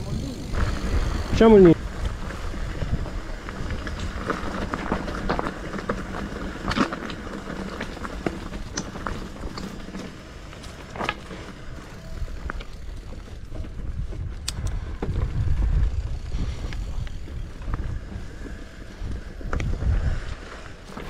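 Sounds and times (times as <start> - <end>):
wind buffeting microphone: 0.0 - 9.6, 11.7 - 21.0
bike clicks and rattles: 0.0 - 21.0.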